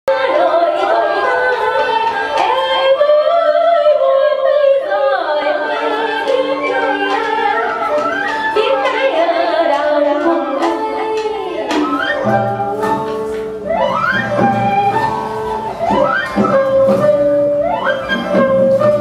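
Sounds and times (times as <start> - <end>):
plucked string instruments: 0.1 - 4.0, 4.8 - 19.0.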